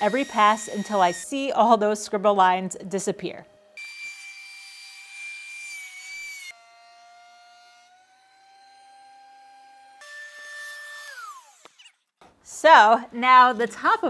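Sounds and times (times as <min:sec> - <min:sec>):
thickness planer whining: 0:00.0 - 0:12.4.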